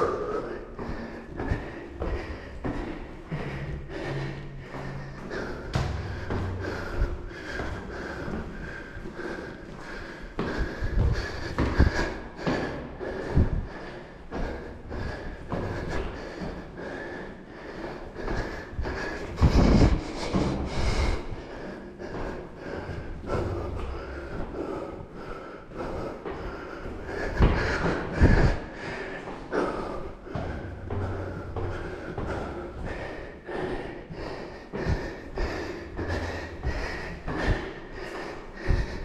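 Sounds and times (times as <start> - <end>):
footsteps on stairs: 0.0 - 39.0
person breathing heavily: 0.0 - 39.0.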